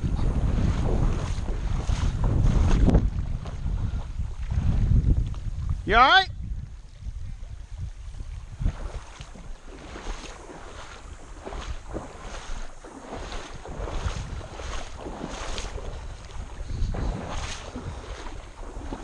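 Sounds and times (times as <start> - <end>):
kayak paddle splashing in water: 0.0 - 5.5, 8.1 - 19.0
wind rumbling on microphone: 0.0 - 19.0.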